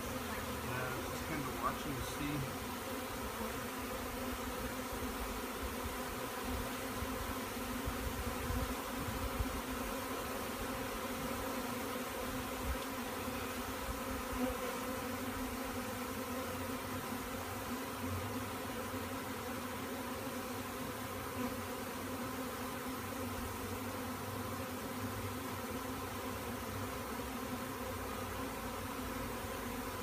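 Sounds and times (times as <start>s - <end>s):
honey bees buzzing: 0.0s - 30.0s.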